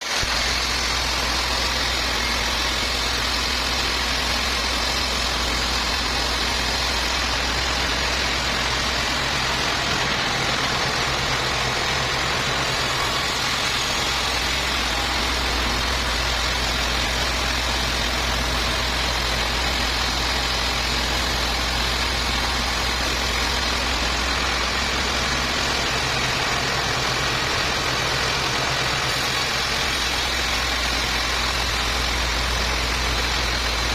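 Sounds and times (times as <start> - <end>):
engine drone: 0.0 - 33.9
machinery hiss: 0.0 - 33.9.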